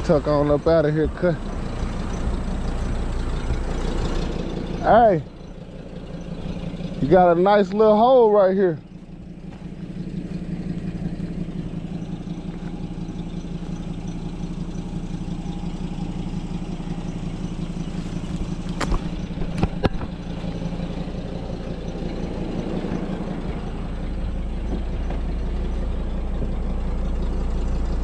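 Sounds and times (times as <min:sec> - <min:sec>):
vehicle engine running at low speed: 0:00.0 - 0:28.0.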